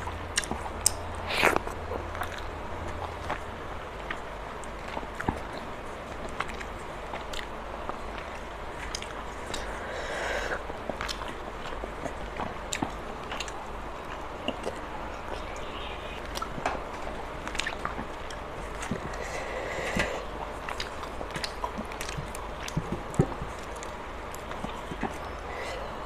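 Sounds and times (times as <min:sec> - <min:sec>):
chewing and wet mouth sounds: 0:00.0 - 0:26.0.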